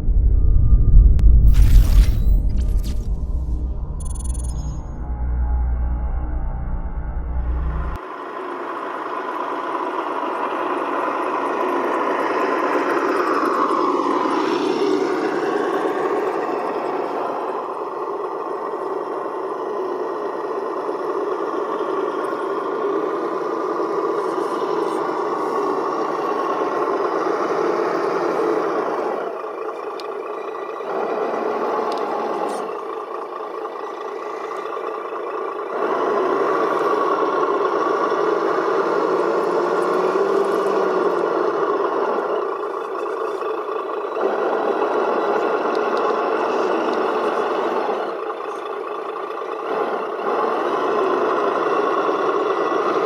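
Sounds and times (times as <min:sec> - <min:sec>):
truck engine revving: 0:01.4 - 0:53.0.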